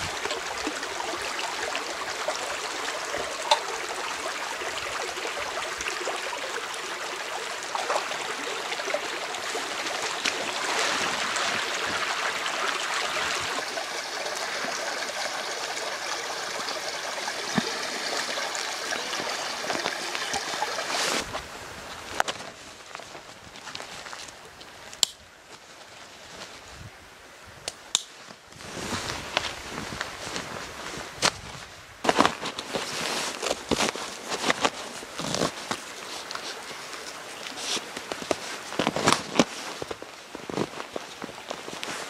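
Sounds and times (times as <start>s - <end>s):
brook babbling over stones: 0.0s - 26.1s, 32.0s - 42.0s.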